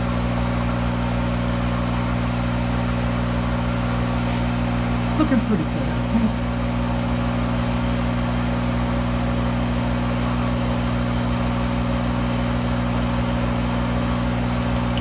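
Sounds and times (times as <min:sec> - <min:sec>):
lathe running with electric hum: 0:00.1 - 0:15.0.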